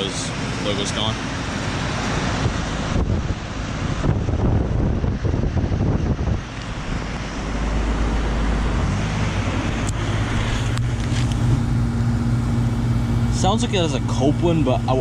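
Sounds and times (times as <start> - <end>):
compressor humming: 0.0 - 15.0
fan air rushing: 0.0 - 15.0.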